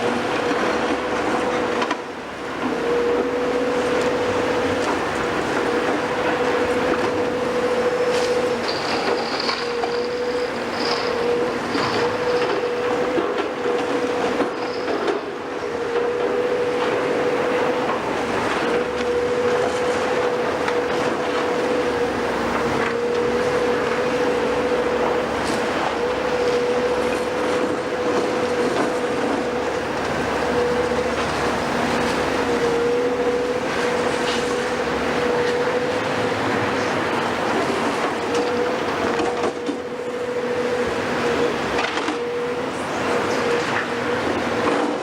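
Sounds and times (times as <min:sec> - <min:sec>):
engine noise: 0:00.0 - 0:45.0
machinery whine: 0:00.0 - 0:45.0.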